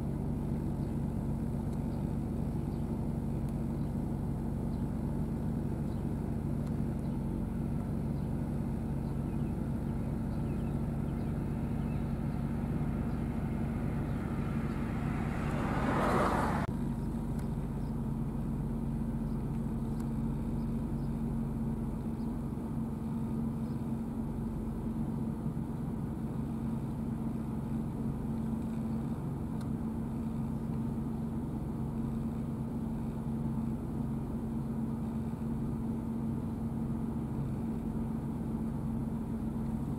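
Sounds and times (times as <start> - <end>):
diesel tractor engine drone: 0.0 - 39.9.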